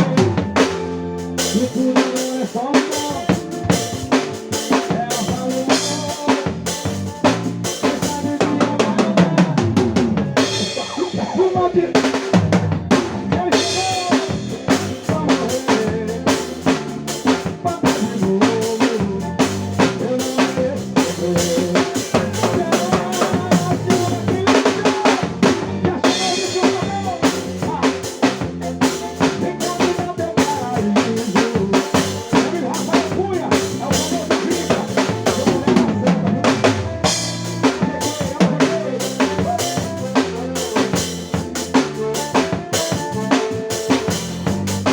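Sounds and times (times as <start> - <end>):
drum kit playing: 0.0 - 44.9
recorded song: 0.0 - 44.9.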